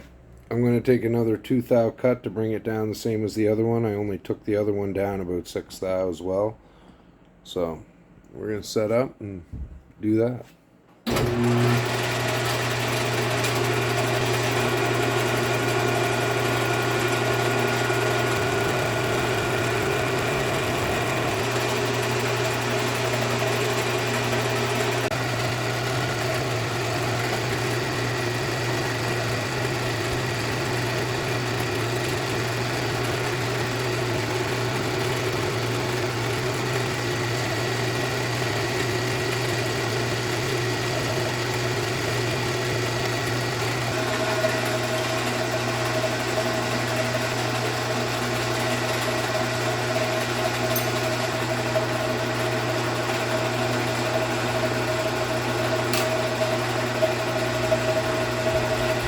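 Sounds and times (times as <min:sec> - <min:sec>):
resurfacing machine motor hum: 0:11.1 - 0:59.0.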